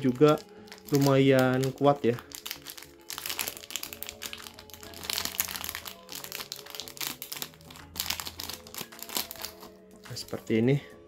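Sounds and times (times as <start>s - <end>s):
plastic bag crinkling: 0.0s - 10.6s
background music: 0.0s - 11.0s.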